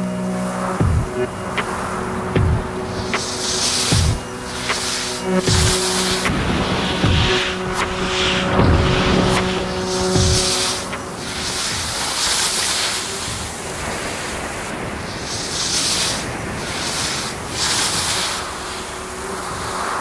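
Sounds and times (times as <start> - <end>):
skis scraping on snow: 0.5 - 20.0.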